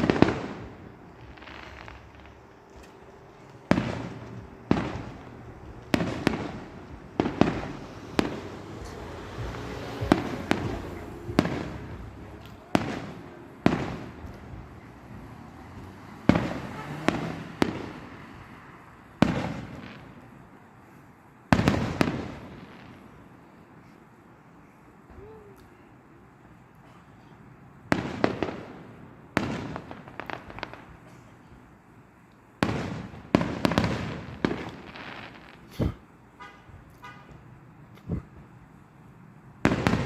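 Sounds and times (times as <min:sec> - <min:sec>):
fireworks booming: 0:00.0 - 0:20.7, 0:21.5 - 0:23.4, 0:27.9 - 0:31.8, 0:32.5 - 0:40.0
fireworks crackling: 0:00.0 - 0:26.8, 0:27.4 - 0:40.0.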